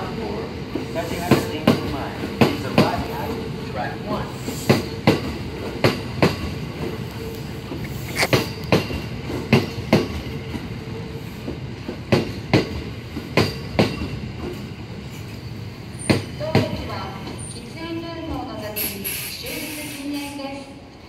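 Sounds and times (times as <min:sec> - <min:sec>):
train running rumble: 0:00.0 - 0:17.6.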